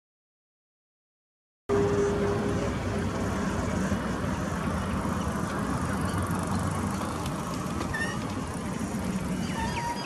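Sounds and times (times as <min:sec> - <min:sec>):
diesel locomotive rumbling: 0:01.7 - 0:10.0
vehicles idling: 0:01.7 - 0:10.0.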